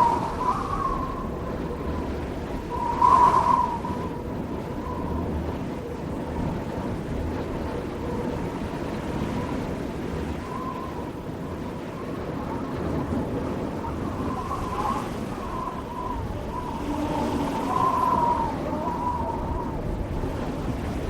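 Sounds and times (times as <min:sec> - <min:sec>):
heavy wind whistling: 0:00.0 - 0:21.0.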